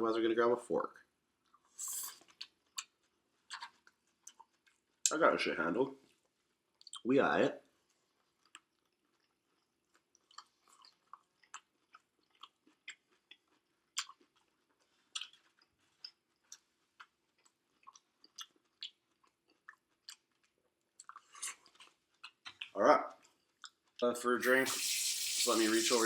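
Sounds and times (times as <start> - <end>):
person chewing: 1.5 - 5.0, 8.1 - 25.5.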